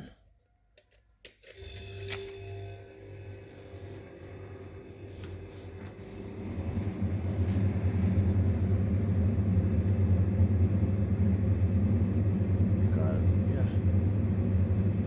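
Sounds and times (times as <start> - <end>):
steady low hum: 2.0 - 15.0.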